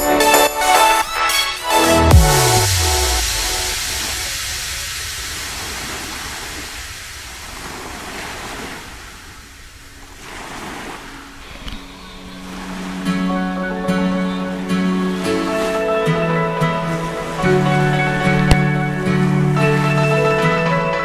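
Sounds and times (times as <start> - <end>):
rushing churning water: 2.3 - 21.0.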